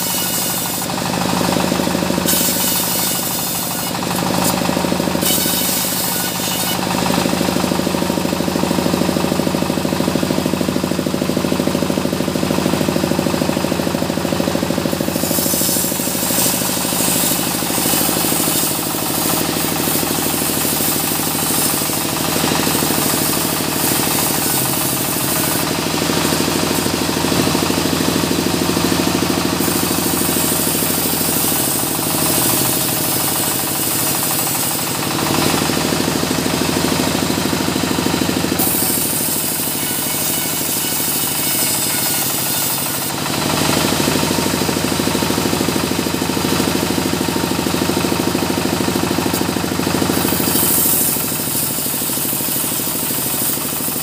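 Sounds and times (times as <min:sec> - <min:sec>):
saw blade ripping wood: 0:00.0 - 0:08.3, 0:14.2 - 0:45.0, 0:48.5 - 0:54.0
sawmill engine drone: 0:00.0 - 0:54.0.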